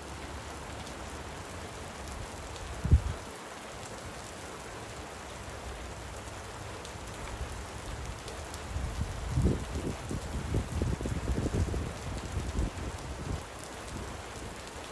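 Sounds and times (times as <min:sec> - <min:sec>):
light rain falling: 0:00.0 - 0:14.9.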